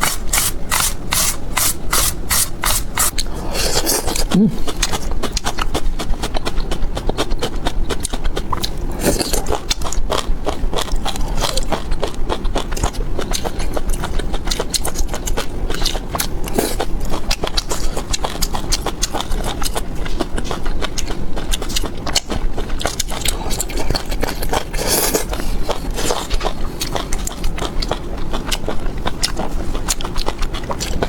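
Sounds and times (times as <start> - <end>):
crunching and chewing food: 0.0 - 31.0.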